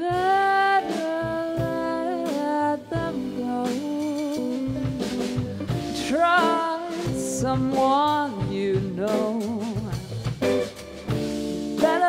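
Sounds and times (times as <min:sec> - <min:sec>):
woman singing with vibrato: 0:00.0 - 0:10.1, 0:11.8 - 0:12.0
bass: 0:00.0 - 0:12.0
drum kit: 0:00.0 - 0:12.0
guitar: 0:00.0 - 0:12.0.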